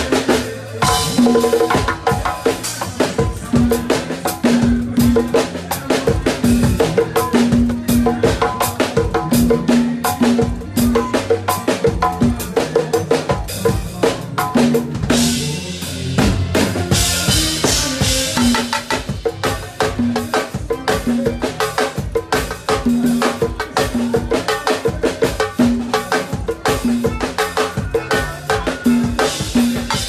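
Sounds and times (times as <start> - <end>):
congas played by hand: 0.0 - 30.0
drum kit kick and snare: 0.0 - 30.0.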